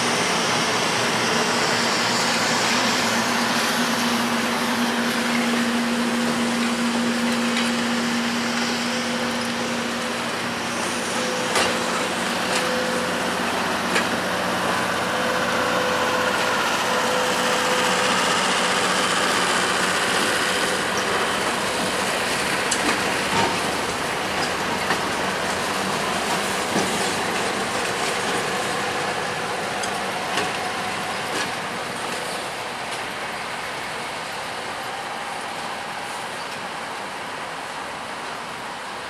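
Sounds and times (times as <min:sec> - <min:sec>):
diesel locomotive engine running: 0:00.0 - 0:39.0
train wheels clicking on track: 0:00.0 - 0:39.0.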